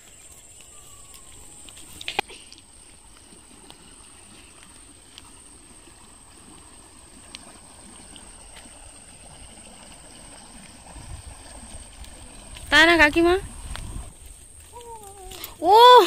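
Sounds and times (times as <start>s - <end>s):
stream water rushing: 1.3s - 16.0s.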